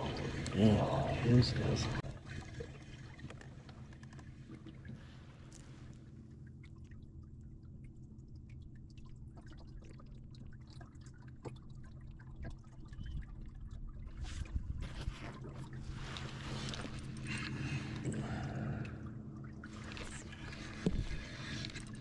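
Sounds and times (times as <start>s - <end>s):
low steady hum: 0.0s - 22.0s
water trickling and dripping: 0.0s - 22.0s.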